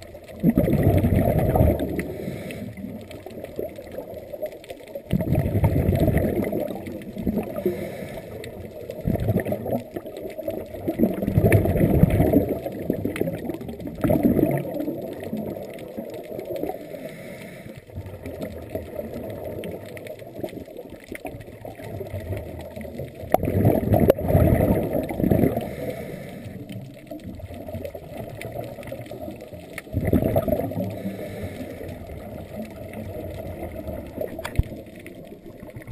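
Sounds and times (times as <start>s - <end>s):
underwater breath bubbles: 0.0s - 35.9s.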